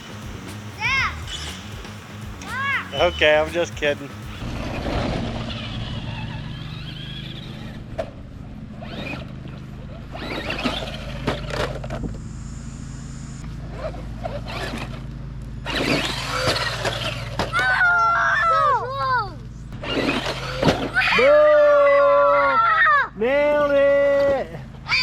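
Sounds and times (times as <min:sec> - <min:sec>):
electric motor hum: 0:00.0 - 0:21.2.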